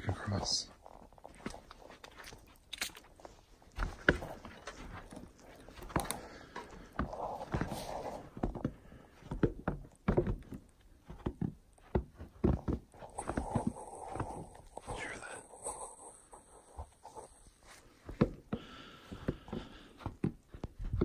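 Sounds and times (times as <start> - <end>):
footsteps on wooden planks: 0.0 - 21.0.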